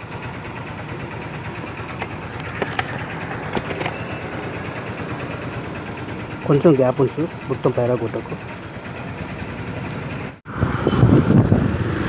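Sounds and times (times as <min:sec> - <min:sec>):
fuel dispenser pumping: 0:00.0 - 0:10.4.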